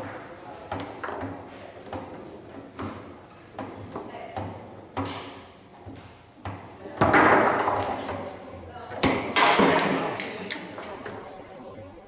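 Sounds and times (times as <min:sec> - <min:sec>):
foosball rods and ball clicking: 0:00.0 - 0:11.3.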